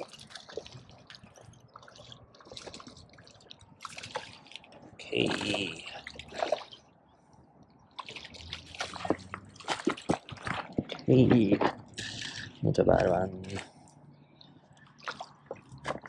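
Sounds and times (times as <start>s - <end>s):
fish splashing in water: 0.0s - 7.0s, 7.9s - 12.6s, 14.8s - 16.0s.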